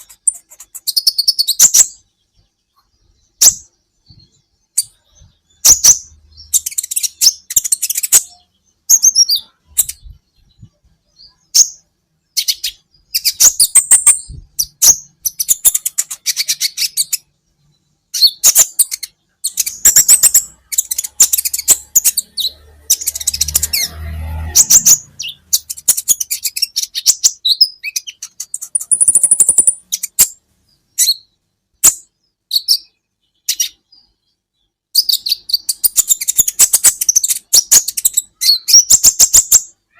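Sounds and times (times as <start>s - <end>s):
bird chips and trills: 0.0s - 39.9s.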